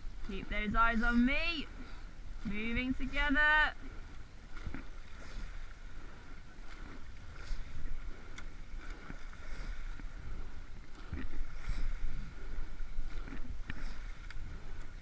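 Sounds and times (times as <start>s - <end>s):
oars swishing and clunking: 0.0s - 15.0s
water rushing past hull: 0.0s - 15.0s
wind on microphone: 0.0s - 15.0s.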